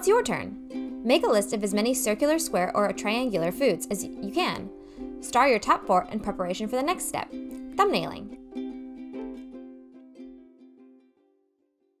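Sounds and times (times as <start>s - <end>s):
plucked strings music: 0.0s - 11.5s.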